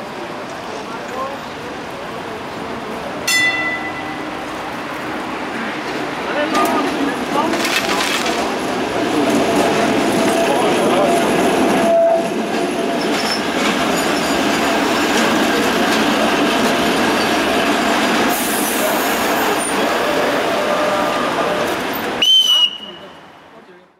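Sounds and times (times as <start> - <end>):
tram running on rails: 0.0 - 23.9.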